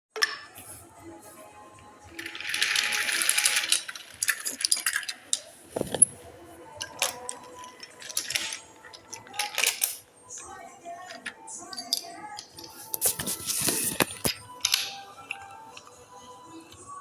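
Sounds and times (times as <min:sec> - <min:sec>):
toy trains clicking and rattling: 0:01.3 - 0:16.9.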